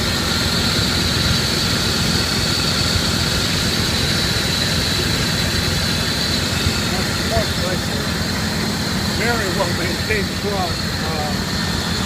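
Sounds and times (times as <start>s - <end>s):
high whine: 0.0s - 12.0s
truck engine idling: 0.0s - 12.0s.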